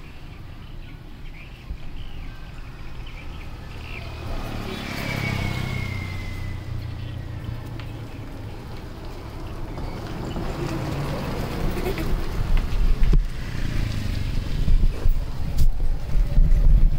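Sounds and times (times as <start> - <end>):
motor vehicle passing by: 2.4 - 16.9.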